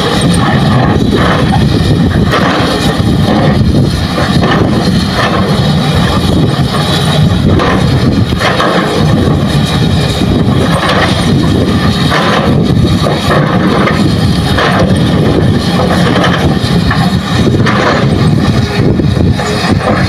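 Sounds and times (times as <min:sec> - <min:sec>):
excavator engine rumble: 0:00.0 - 0:20.0.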